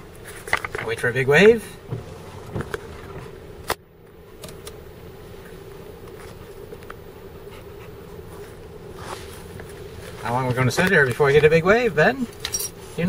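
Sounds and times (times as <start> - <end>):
vehicle cabin hum: 0.0 - 13.0.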